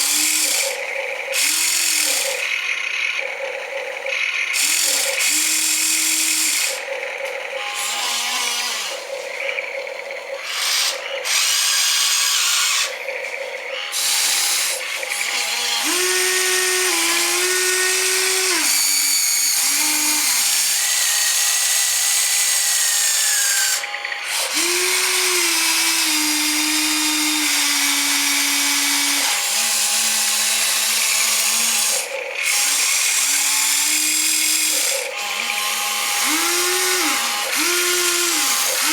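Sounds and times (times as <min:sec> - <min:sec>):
small electric motors whining: 0:00.0 - 0:38.9.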